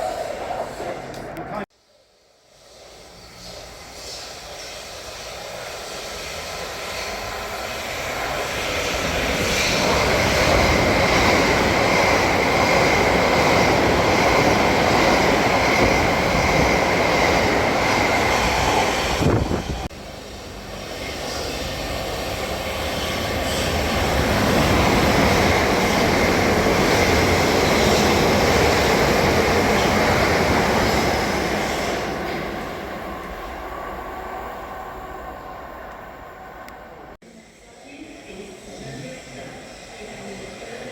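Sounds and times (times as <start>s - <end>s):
electric train passing: 0.0s - 40.9s.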